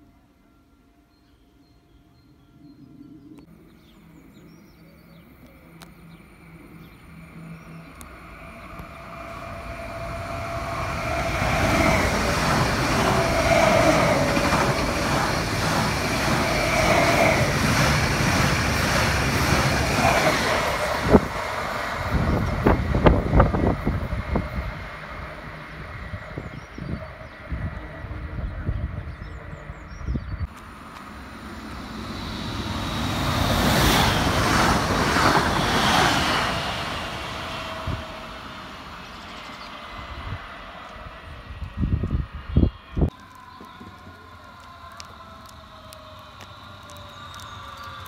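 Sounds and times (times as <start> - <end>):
train wheels rumbling on rail: 7.3 - 48.0.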